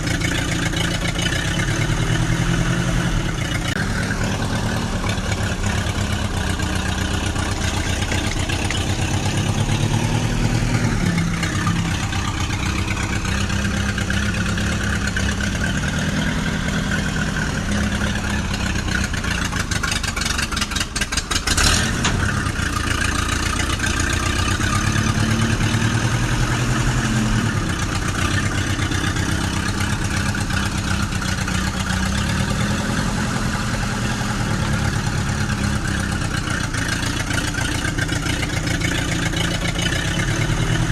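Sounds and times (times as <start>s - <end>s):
tractor engine revving: 0.0s - 40.9s.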